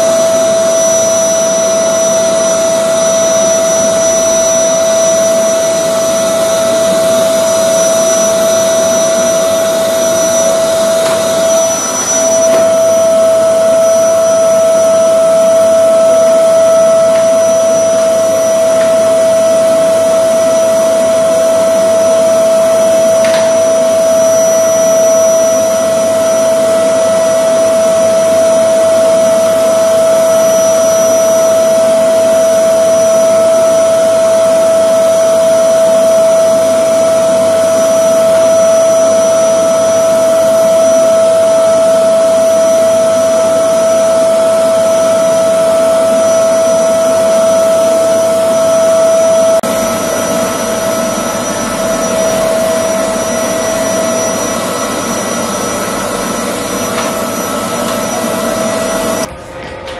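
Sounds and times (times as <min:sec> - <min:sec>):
vacuum cleaner whine: 0:00.0 - 0:59.9.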